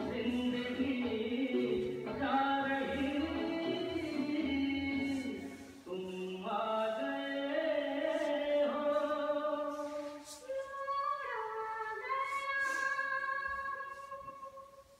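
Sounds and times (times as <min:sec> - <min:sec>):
slow sung melody: 0:00.0 - 0:14.9.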